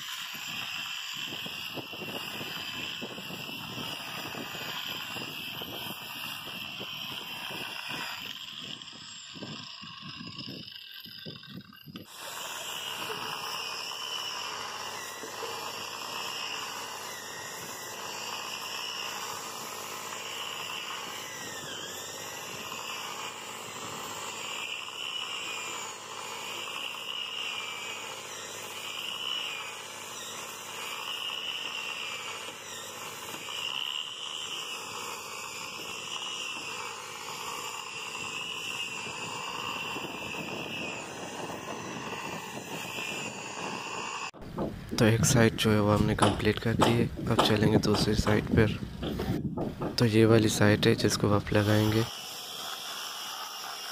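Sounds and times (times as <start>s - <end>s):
electric sander whining on wood: 0.0s - 53.9s.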